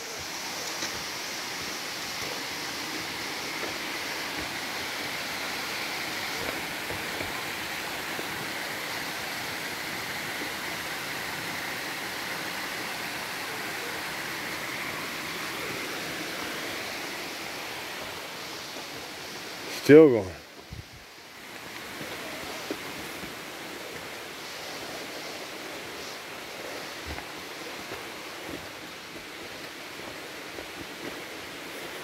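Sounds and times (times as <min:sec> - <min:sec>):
stream rushing over rock: 0:00.0 - 0:32.0.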